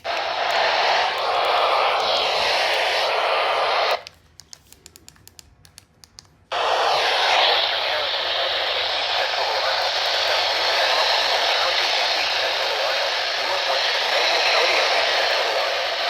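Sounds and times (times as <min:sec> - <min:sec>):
radio static hiss: 0:00.0 - 0:04.0, 0:06.5 - 0:16.0.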